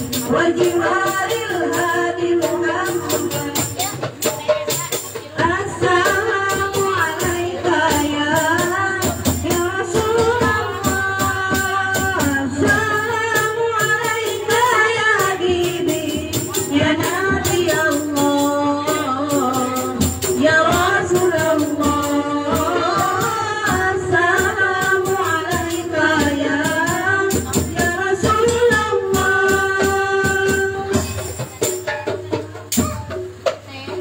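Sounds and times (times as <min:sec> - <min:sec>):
women singing in unison: 0:00.0 - 0:31.5
drum kit: 0:00.0 - 0:34.0
frame drums with jingles: 0:00.0 - 0:34.0.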